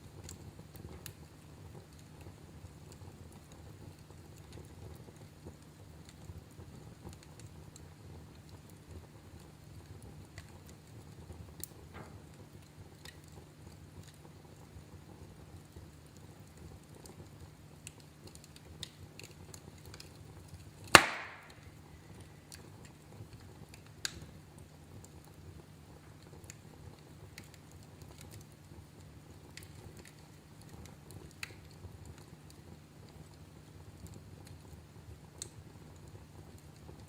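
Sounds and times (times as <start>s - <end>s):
low fire rumble: 0.0s - 37.0s
wood fire crackling: 0.0s - 37.0s.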